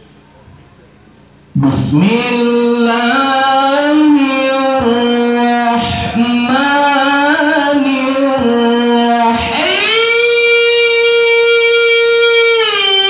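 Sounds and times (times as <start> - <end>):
man reciting in melodic chant: 1.6 - 13.0.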